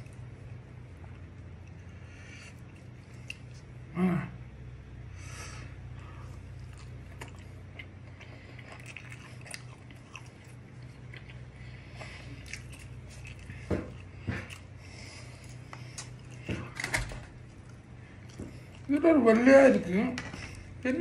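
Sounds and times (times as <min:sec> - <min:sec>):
chewing and eating: 0:00.0 - 0:03.9, 0:05.7 - 0:21.0
low hum: 0:00.0 - 0:21.0.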